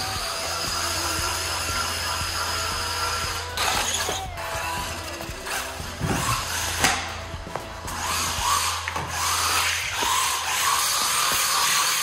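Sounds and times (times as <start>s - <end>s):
low hum: 0.0s - 11.3s
rc car motor whining: 0.0s - 12.0s.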